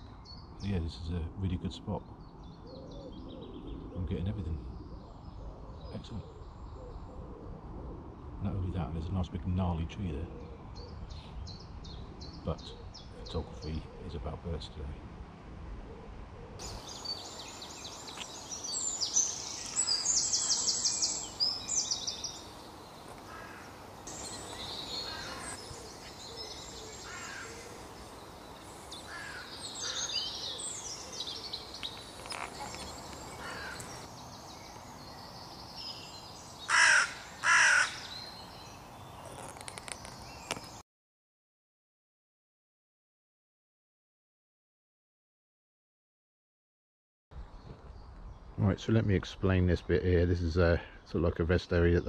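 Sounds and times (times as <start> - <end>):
songbirds singing and calling: 0.0 - 15.0, 15.7 - 40.8, 47.3 - 52.0.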